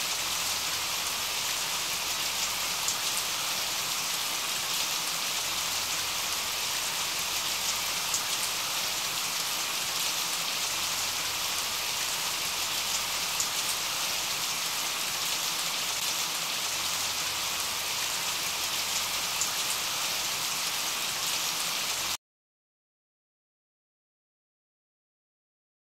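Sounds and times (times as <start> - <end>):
rain hissing: 0.0 - 22.2.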